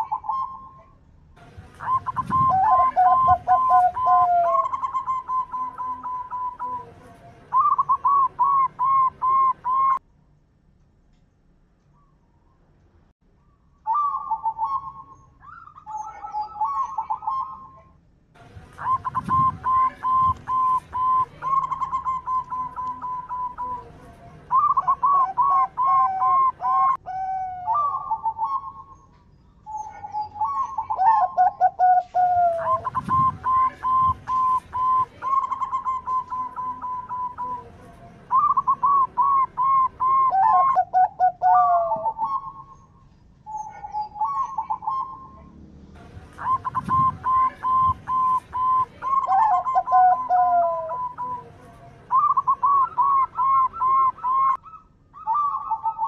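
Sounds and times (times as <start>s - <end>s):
dove cooing: 0.0s - 10.0s, 13.9s - 17.9s, 18.6s - 29.0s, 29.7s - 56.0s.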